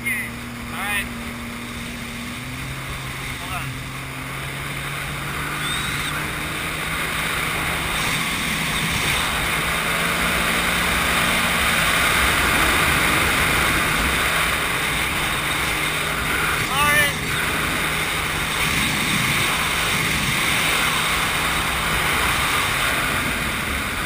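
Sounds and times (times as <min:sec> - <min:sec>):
water and wind rushing: 0:00.0 - 0:24.0
watercraft engine running: 0:00.0 - 0:24.0.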